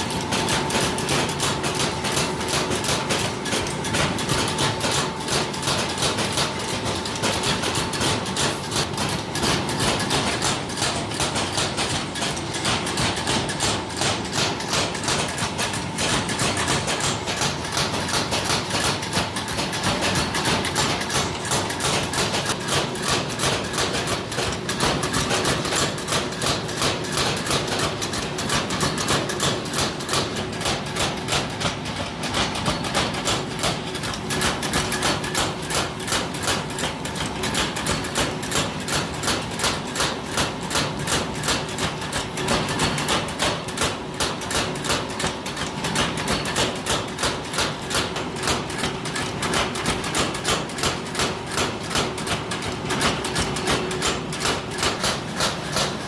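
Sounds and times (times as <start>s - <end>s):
rhythmic metal hammering: 0.0s - 56.0s.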